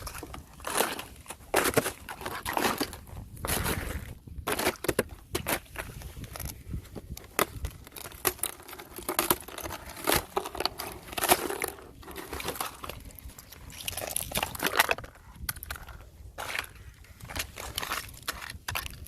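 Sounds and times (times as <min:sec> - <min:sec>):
thin ice crunching and cracking: 0:00.0 - 0:19.0.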